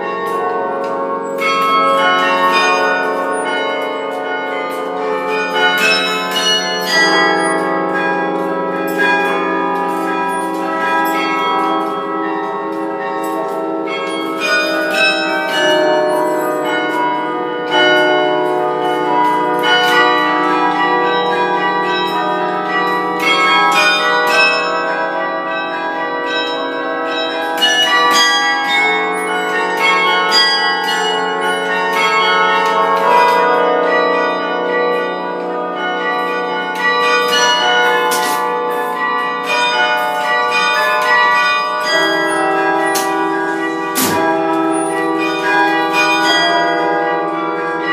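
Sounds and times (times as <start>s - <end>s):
carillon bells playing: 0.0s - 47.9s.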